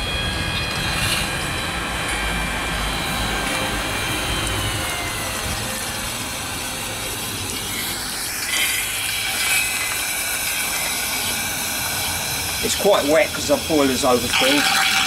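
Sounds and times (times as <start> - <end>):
electric blower whine: 0.0 - 15.0
steam hissing: 0.0 - 15.0.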